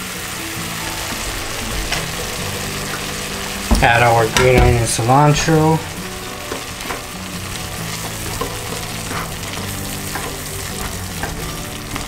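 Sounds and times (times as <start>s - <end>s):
sauce sizzling in a frying pan: 0.0s - 12.0s.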